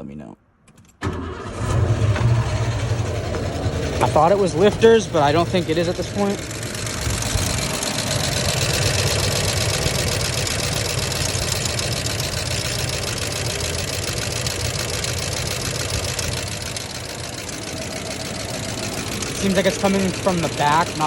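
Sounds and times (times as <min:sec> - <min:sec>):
truck engine idling: 0:01.2 - 0:21.0
rapid engine tapping: 0:02.1 - 0:21.0.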